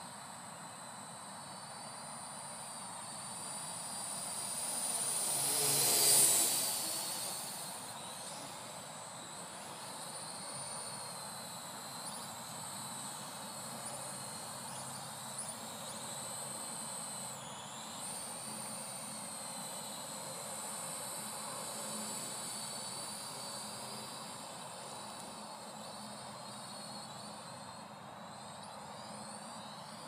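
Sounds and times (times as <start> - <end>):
drone rotors whining: 0.0 - 30.0.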